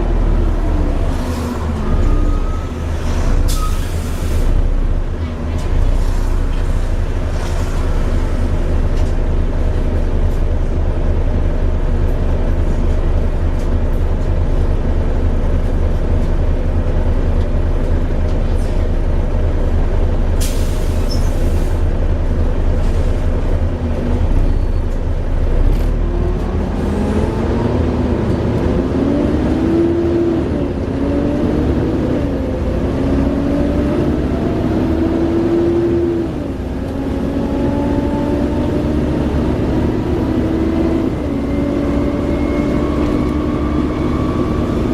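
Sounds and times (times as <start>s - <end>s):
diesel locomotive engine throbbing: 0.0s - 44.9s.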